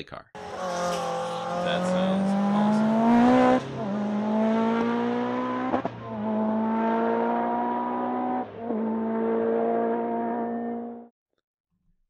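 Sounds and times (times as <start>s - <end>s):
rally car engine accelerating: 0.4s - 11.1s.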